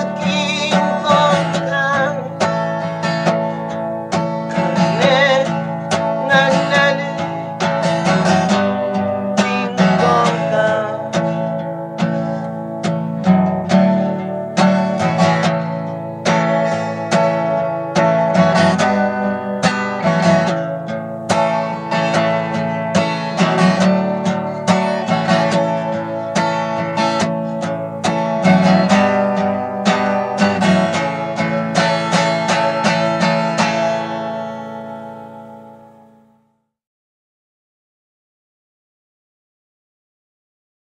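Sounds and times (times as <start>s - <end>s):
acoustic guitar strumming: 0.0s - 36.7s.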